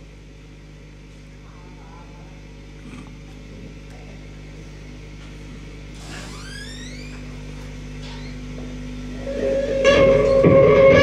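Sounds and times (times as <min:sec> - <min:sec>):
electronic hum of low tones: 0:00.0 - 0:11.0.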